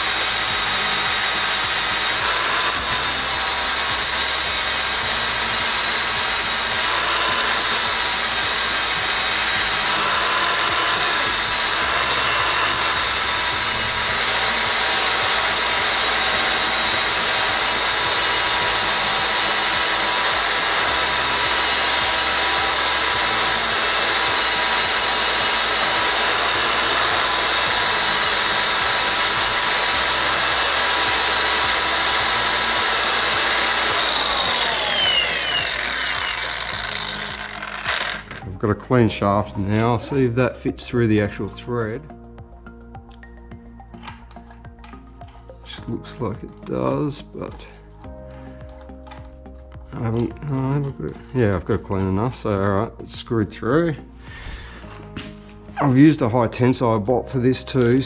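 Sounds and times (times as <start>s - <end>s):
angle grinder grinding metal: 0.0s - 58.0s.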